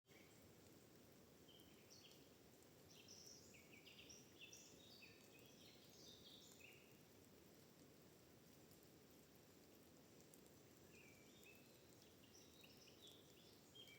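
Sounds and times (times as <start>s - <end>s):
soft background hiss: 0.1s - 13.9s.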